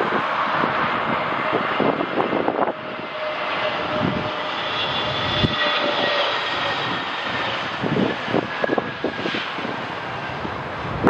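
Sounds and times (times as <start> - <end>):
jet engines whining: 0.0 - 11.0
wind buffeting microphone: 0.0 - 11.0.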